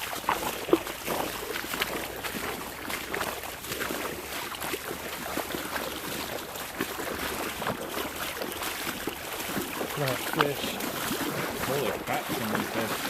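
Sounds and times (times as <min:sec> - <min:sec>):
stream rushing: 0:00.0 - 0:13.0
water sloshing and splashing: 0:00.0 - 0:13.0.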